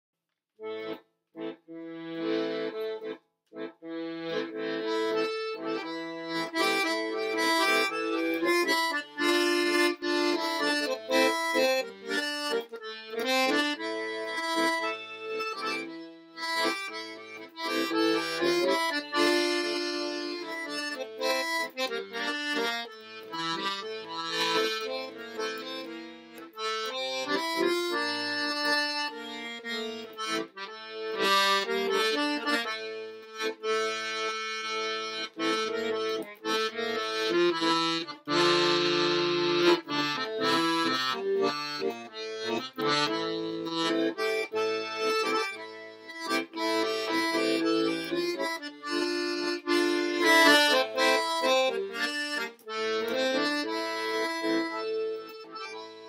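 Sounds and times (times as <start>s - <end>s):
piano accordion playing: 0.6s - 56.0s.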